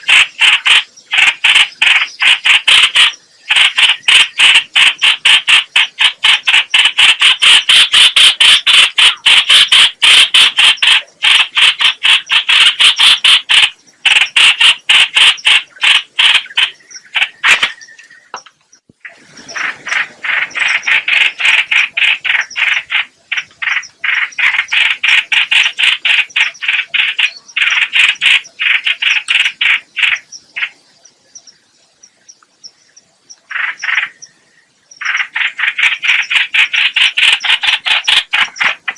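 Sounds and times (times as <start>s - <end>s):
bird chattering call: 0.0s - 30.8s, 33.4s - 34.3s, 35.0s - 38.9s.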